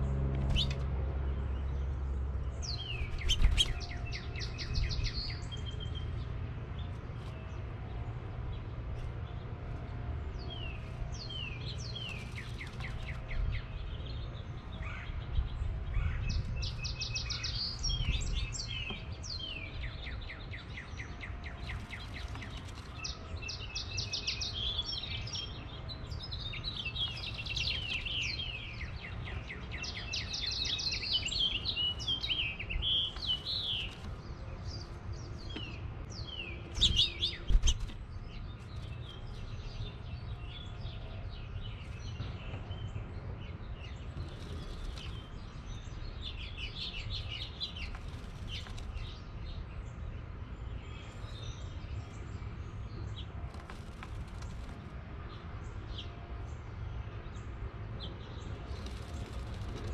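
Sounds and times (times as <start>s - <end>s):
finch singing warbles and trills: 0.0s - 59.9s.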